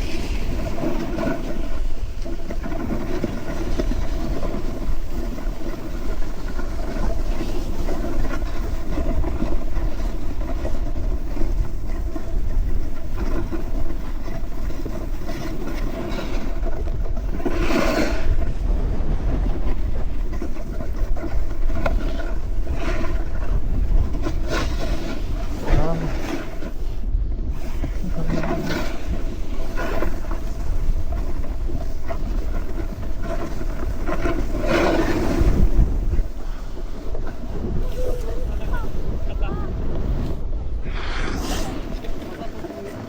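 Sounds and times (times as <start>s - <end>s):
snowboard scraping over snow: 0.0s - 43.0s.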